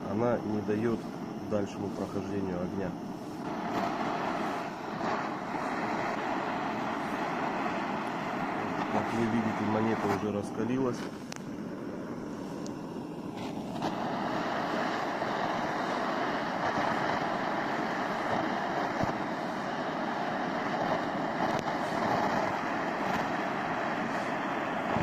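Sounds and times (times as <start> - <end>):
gas burner flame hissing: 0.0 - 25.0.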